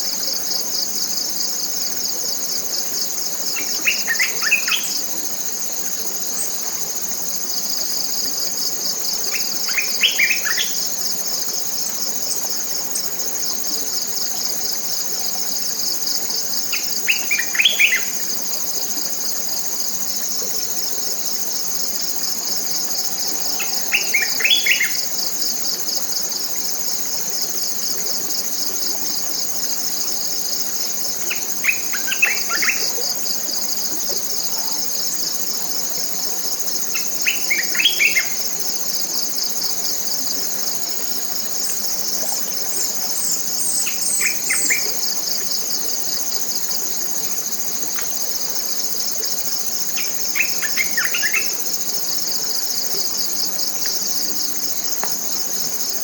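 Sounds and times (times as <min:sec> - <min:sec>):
insects pulsing drone: 0:00.0 - 0:56.0.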